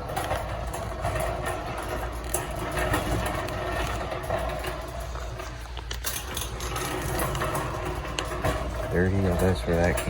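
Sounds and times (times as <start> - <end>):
store interior hum: 0.0 - 10.0.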